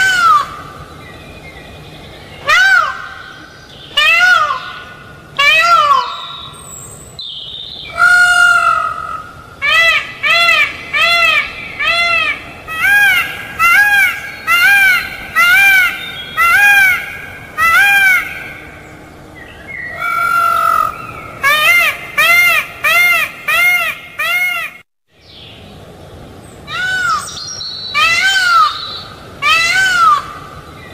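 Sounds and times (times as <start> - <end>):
peafowl calling loudly: 0.0 - 0.8, 2.4 - 6.8, 7.9 - 18.8, 19.8 - 24.8, 26.7 - 30.9.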